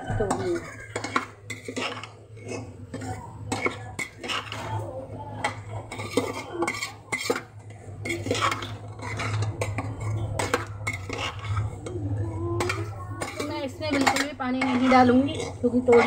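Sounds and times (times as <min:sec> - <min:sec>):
metal ladle scraping a pot: 0:00.0 - 0:16.0.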